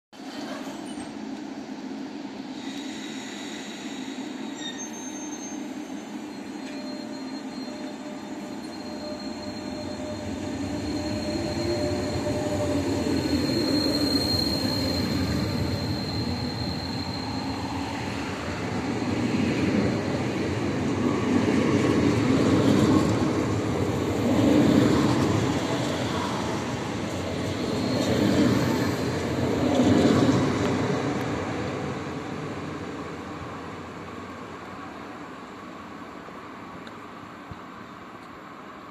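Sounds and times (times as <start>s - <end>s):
wheels rumbling on rail: 5.4s - 38.9s.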